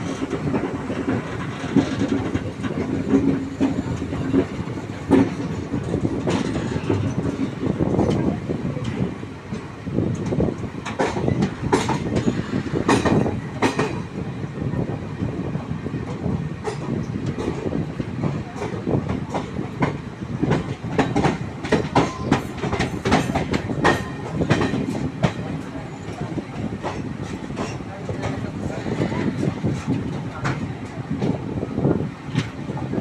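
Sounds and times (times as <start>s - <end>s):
train wheels clacking: 0.0s - 14.2s, 16.0s - 31.4s
train rumble: 0.0s - 33.0s.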